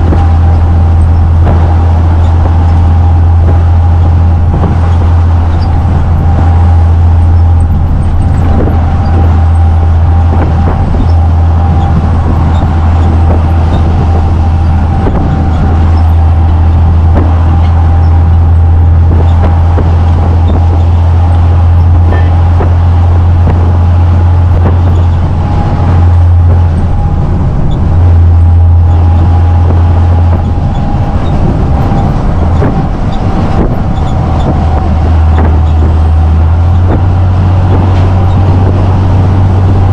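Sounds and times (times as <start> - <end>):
road noise: 0.0 - 39.9
thin steady whine: 0.0 - 39.9
truck engine drone: 0.0 - 39.9.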